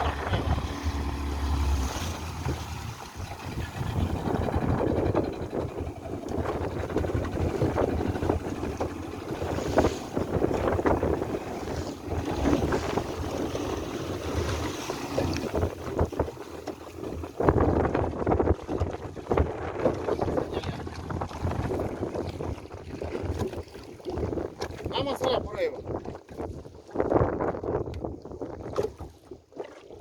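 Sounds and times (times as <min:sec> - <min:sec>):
wind buffeting microphone: 0:00.0 - 0:29.3
water lapping against boat: 0:00.0 - 0:30.0.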